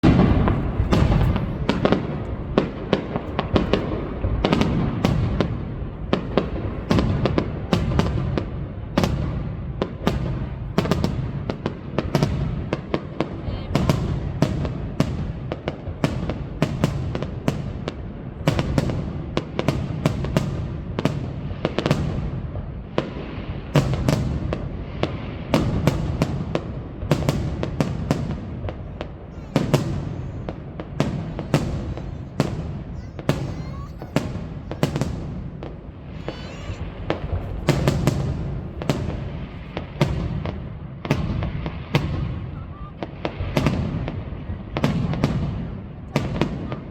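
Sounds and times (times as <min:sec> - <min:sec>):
fireworks bangs: 0:00.0 - 0:46.9
low rumble of fireworks: 0:00.0 - 0:46.9.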